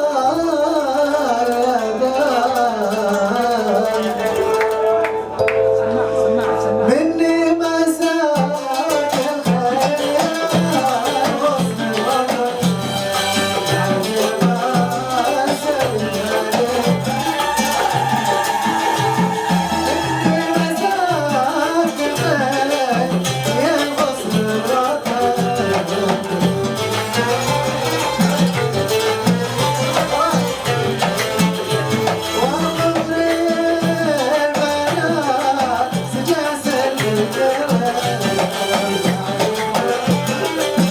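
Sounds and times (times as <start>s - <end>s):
wedding music melody: 4.2s - 8.0s, 11.4s - 40.9s
drum beat: 7.9s - 40.9s.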